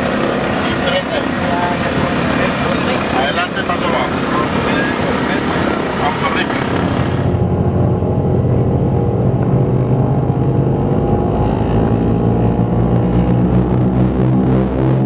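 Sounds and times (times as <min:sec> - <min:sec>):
aircraft piston engines droning: 0:00.0 - 0:14.8.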